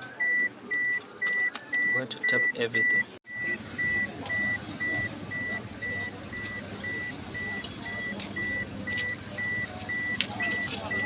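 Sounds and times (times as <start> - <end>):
high electronic beeps: 0.0 - 11.0.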